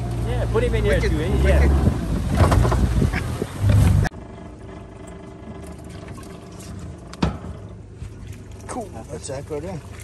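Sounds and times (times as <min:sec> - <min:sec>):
outboard motor humming: 0:00.0 - 0:10.0.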